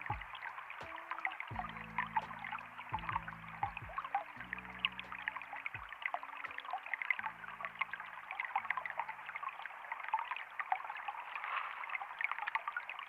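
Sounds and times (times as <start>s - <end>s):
soft background music: 0.0s - 11.2s
water trickling and babbling: 0.0s - 13.0s.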